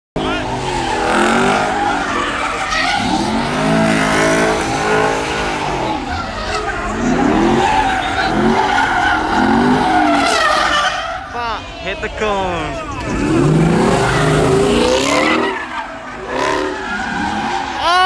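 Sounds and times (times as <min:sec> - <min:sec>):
car engine revving: 0:00.2 - 0:18.0
tires screeching: 0:00.2 - 0:18.0.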